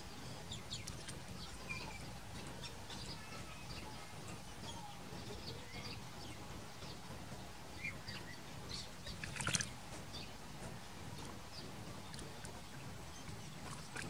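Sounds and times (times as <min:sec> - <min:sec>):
small birds chirping: 0:00.0 - 0:14.0
steady outdoor hiss: 0:00.0 - 0:14.0.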